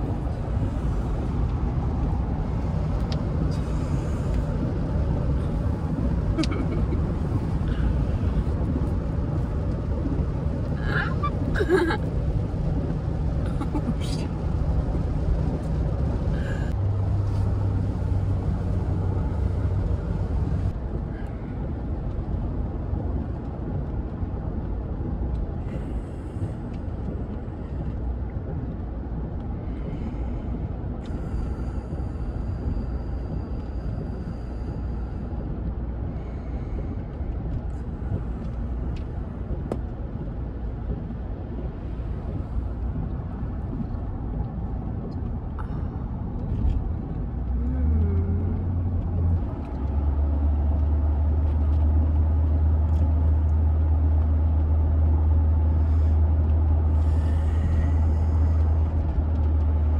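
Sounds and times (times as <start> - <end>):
car cabin road and engine rumble: 0.0 - 59.9
low hum: 0.0 - 59.9.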